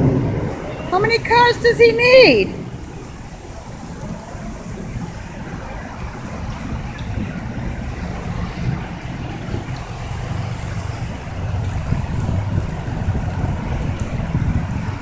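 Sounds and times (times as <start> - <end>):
road traffic rumble: 0.0 - 15.0
wind on microphone: 1.8 - 15.0.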